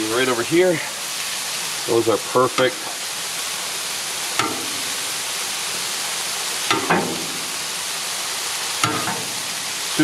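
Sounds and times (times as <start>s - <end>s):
burger patties sizzling: 0.0s - 10.0s.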